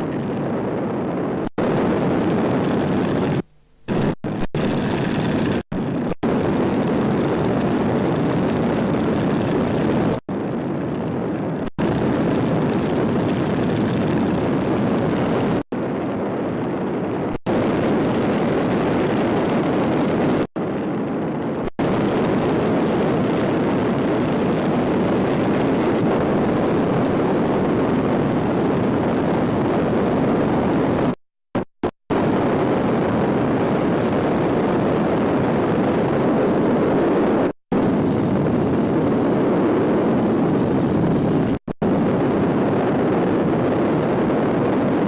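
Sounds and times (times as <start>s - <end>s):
propeller plane engine droning: 0.0s - 31.1s, 32.1s - 45.0s
wind rush: 0.0s - 45.0s.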